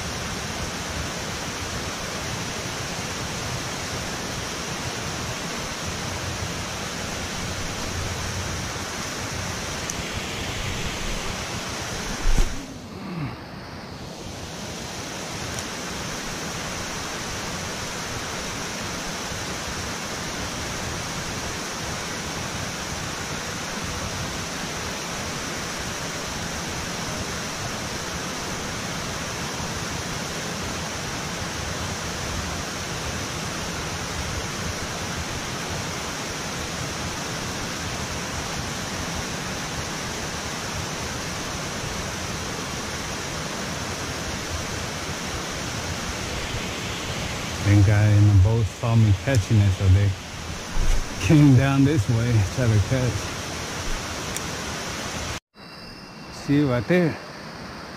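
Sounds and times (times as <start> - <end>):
water rushing through spillway: 0.0 - 12.9, 14.0 - 55.4.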